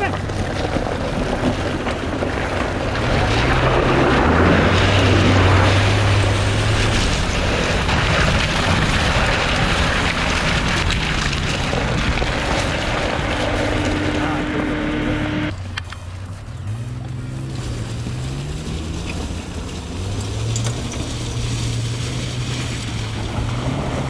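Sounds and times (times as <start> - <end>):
car engine pulling: 0.0 - 24.0
tyres crunching on gravel: 0.0 - 24.0.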